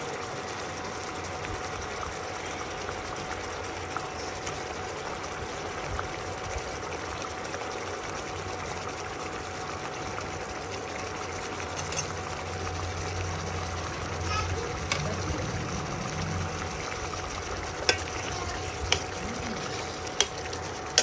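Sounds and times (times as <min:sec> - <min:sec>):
steady hum with hiss: 0:00.0 - 0:21.0.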